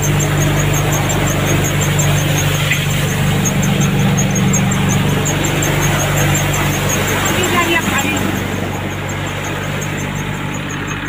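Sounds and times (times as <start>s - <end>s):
fast even machine ticking: 0.0s - 11.0s
thresher machine droning: 0.0s - 11.0s.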